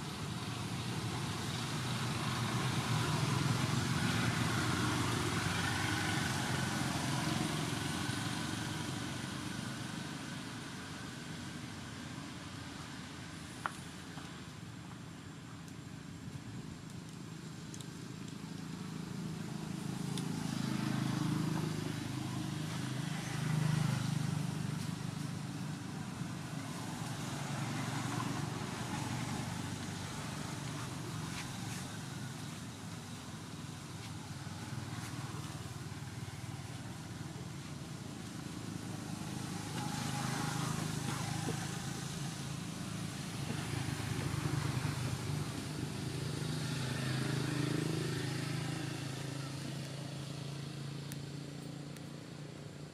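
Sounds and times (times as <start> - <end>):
passing road vehicles rumbling: 0.0 - 52.9.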